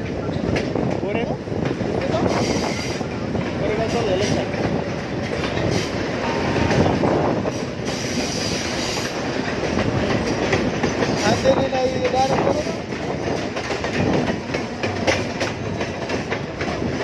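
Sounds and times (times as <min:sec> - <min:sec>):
train wheels rumbling on rails: 0:00.0 - 0:17.0
wheels clacking over rail joints: 0:00.0 - 0:17.0.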